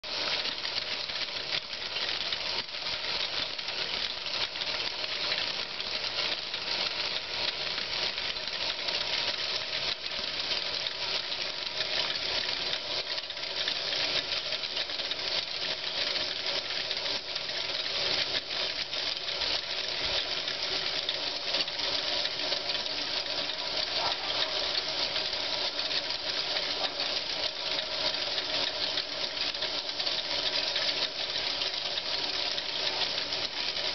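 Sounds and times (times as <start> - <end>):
faint whining gear tones: 0.1 - 33.9
metal gears rattling and clattering: 0.1 - 33.9.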